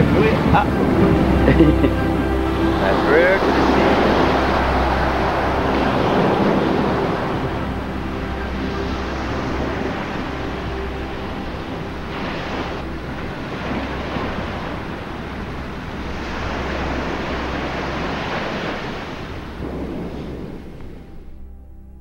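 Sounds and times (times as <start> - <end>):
ocean waves breaking on beach: 0.0 - 21.3.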